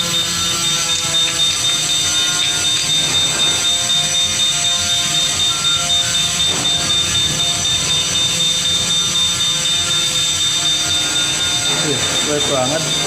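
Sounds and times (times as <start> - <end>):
fire alarm bell ringing: 0.0 - 13.0.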